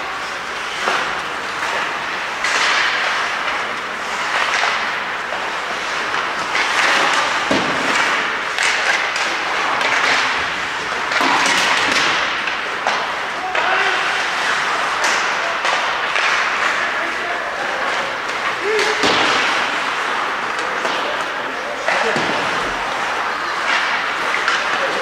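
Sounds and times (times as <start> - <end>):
hockey sticks clacking on puck: 0.0 - 25.0
skate blades scraping ice: 0.1 - 25.0.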